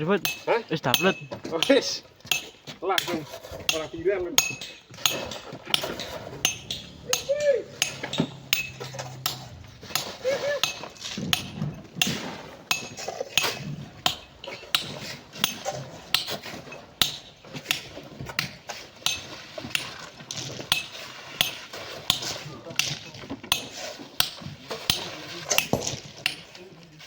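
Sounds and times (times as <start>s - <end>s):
metal tools striking sand and rock: 0.0s - 26.5s.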